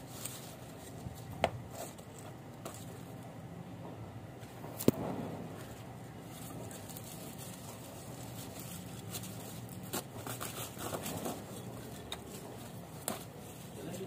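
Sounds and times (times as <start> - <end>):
plant leaves rustling and crackling: 0.0 - 3.3, 4.4 - 14.0
low background noise: 0.0 - 14.0.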